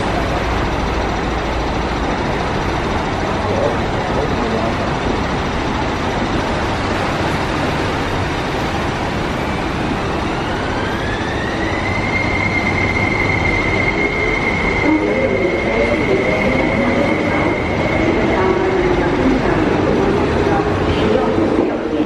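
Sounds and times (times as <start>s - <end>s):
wheel and rail rumble: 0.0s - 22.0s.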